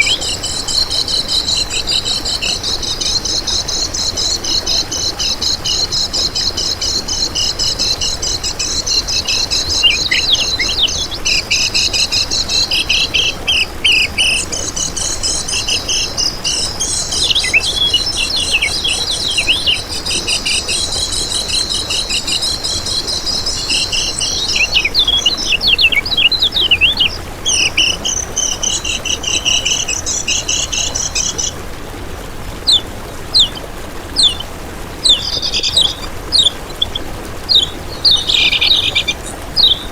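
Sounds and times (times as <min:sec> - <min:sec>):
bird singing high chattering song: 0:00.0 - 0:31.6, 0:32.6 - 0:39.9.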